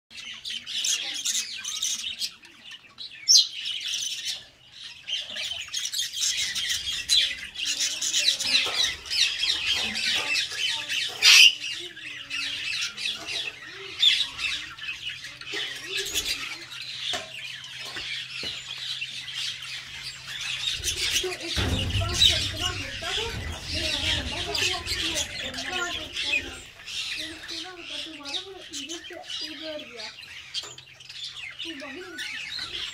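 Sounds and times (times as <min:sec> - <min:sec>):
parrots chirping and squawking: 0:00.1 - 0:32.9.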